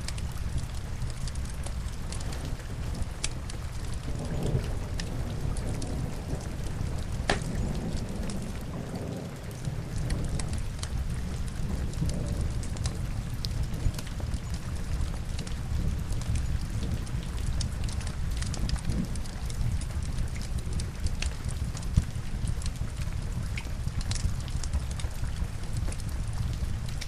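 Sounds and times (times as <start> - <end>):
log fire crackling: 0.0 - 27.0
steady rain: 0.0 - 27.0.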